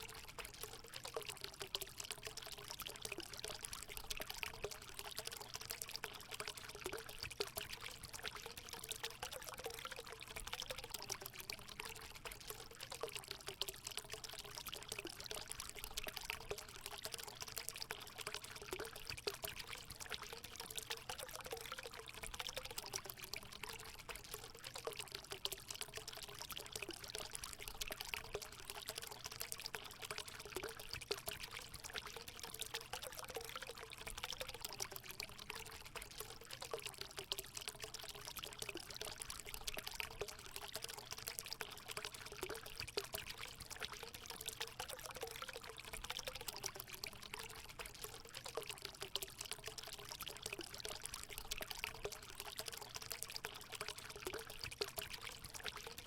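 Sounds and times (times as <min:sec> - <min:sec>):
water pouring into a pool: 0:00.0 - 0:56.0.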